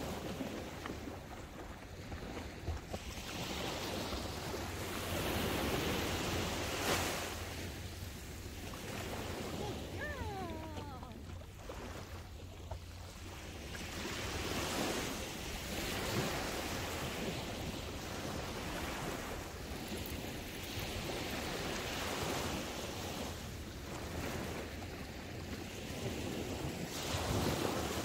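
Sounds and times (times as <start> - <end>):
small waves washing up a beach: 0.0 - 28.0.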